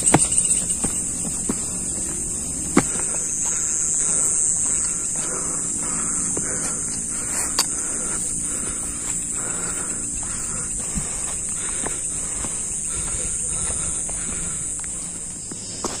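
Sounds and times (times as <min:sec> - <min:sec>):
footsteps on a dirt path: 0:00.0 - 0:16.0
low pulsing insect trill: 0:00.0 - 0:16.0
night insects trilling: 0:00.0 - 0:16.0.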